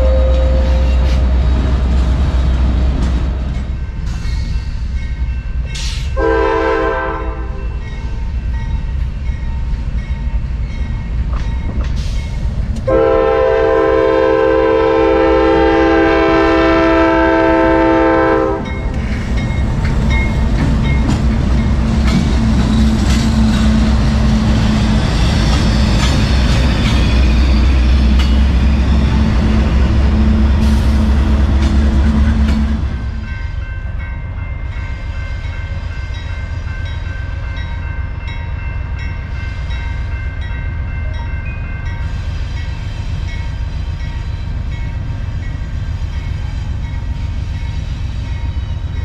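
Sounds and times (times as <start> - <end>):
diesel locomotive engines droning: 0.0 - 49.0.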